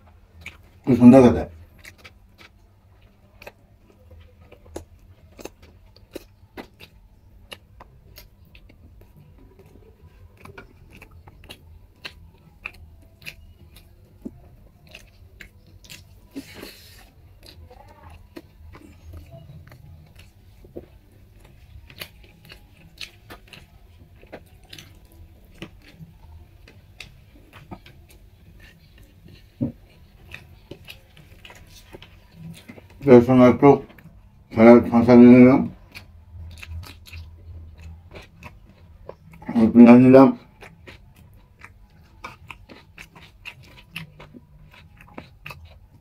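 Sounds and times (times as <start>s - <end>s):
person chewing with mouth clicks: 0.3s - 0.9s, 1.5s - 33.1s, 35.7s - 39.6s, 40.3s - 46.0s.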